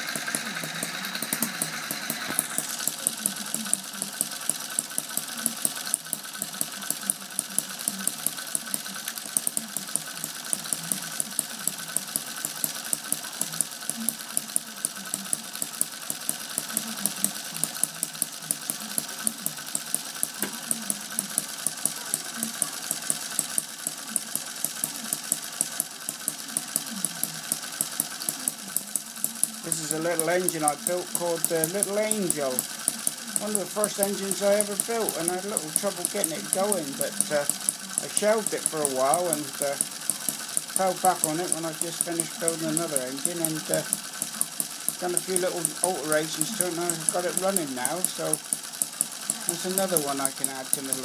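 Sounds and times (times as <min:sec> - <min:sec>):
small engine running with sharp pops: 0:00.0 - 0:51.0.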